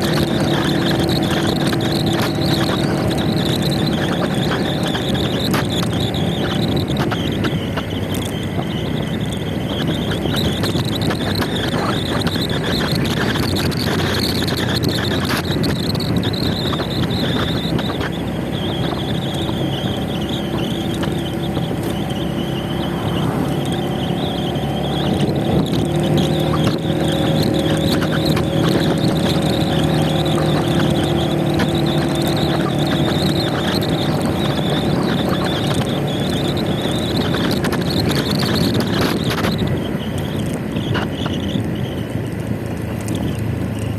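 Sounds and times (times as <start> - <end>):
road noise: 0.0 - 43.9
scooter engine drone: 0.0 - 43.9
wind rushing over microphone: 0.0 - 43.9.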